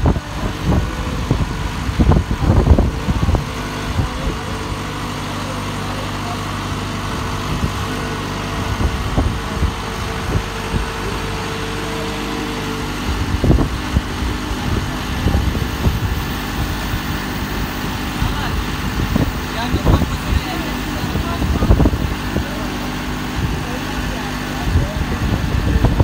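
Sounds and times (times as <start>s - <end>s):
travel lift engine running: 0.0s - 26.0s.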